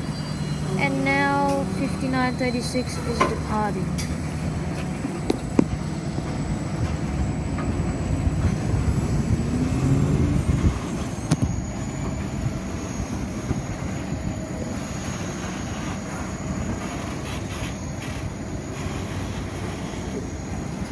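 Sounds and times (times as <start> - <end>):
high whine: 0.0 - 20.9
locomotive engine rumble: 0.0 - 20.9.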